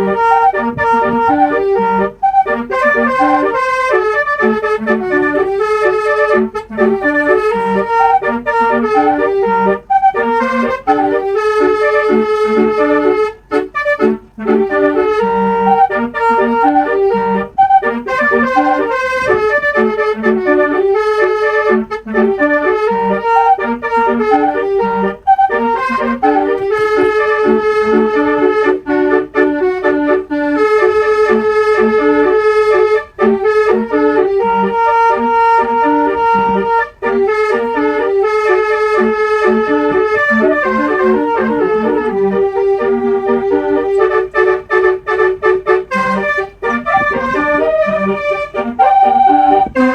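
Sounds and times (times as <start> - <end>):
multi-tone bus air horn melody: 0.0 - 49.9.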